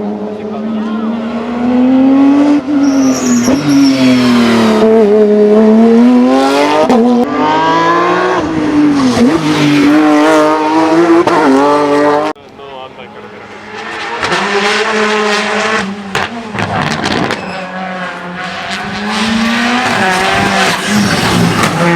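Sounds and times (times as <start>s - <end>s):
race car engine at high revs: 0.0s - 12.4s, 13.2s - 21.9s.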